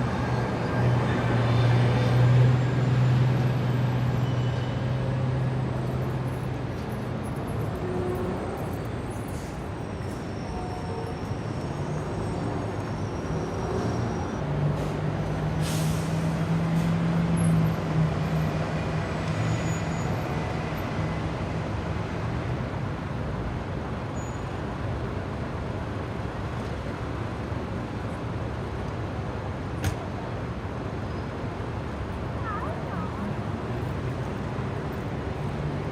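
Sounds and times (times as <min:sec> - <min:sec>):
passing vehicles: 0:00.0 - 0:35.9.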